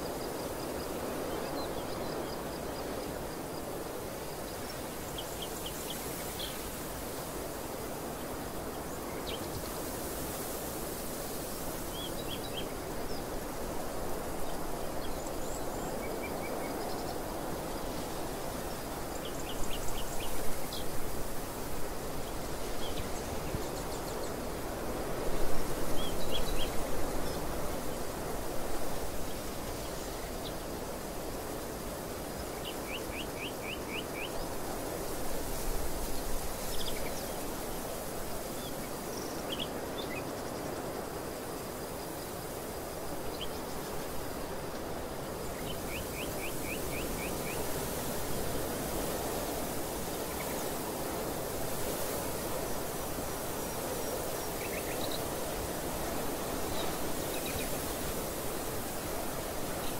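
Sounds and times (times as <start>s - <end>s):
gusting wind: 0.0s - 59.9s.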